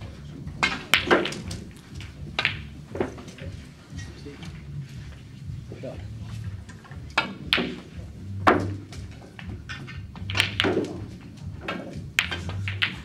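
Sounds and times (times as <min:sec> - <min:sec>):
snooker balls clicking: 0:00.0 - 0:05.2, 0:06.2 - 0:13.0.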